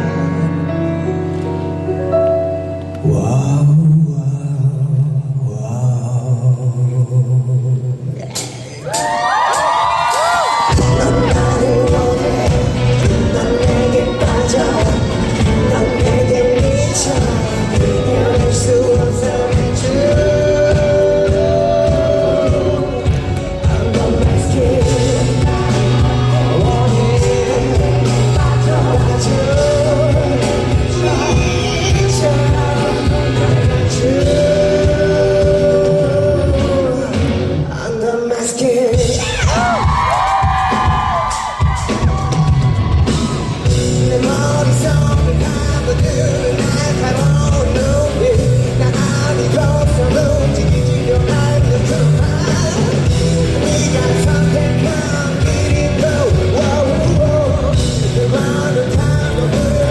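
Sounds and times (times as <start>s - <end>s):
live pop-rock band: 0.0s - 59.9s
person singing: 0.0s - 59.9s.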